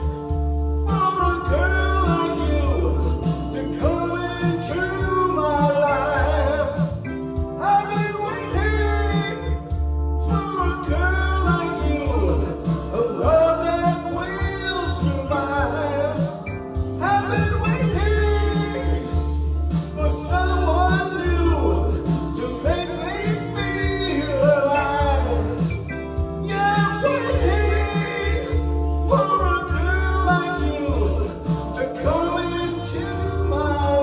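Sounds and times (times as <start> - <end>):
deep bass: 0.0 - 34.0
electronic keyboard chords: 0.0 - 34.0
man singing rock ballad: 0.9 - 34.0.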